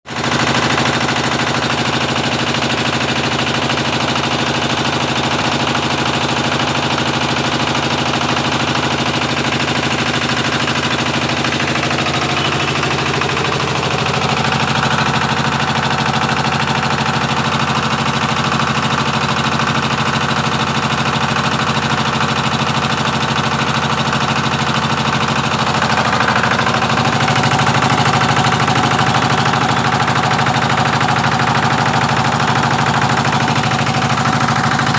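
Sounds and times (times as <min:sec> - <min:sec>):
generator engine running: 0:00.1 - 0:34.9.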